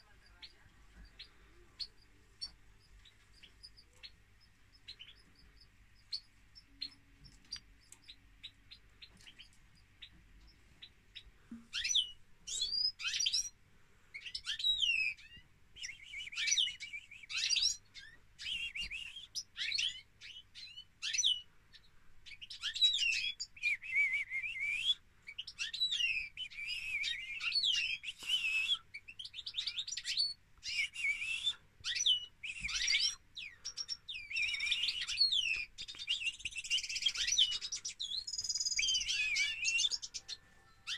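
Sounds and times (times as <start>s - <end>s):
birds singing: 0.0s - 40.9s.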